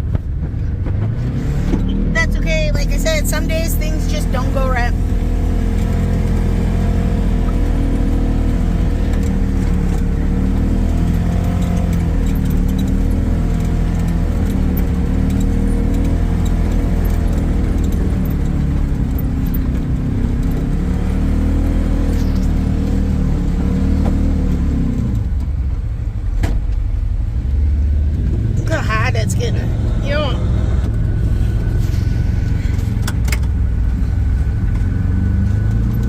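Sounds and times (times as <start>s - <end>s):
vehicle engine droning: 0.0s - 36.0s.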